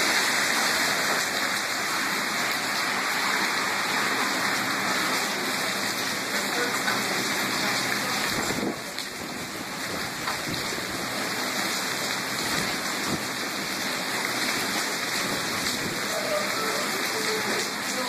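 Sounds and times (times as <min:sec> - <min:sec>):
heavy rain on pavement: 0:00.0 - 0:18.0.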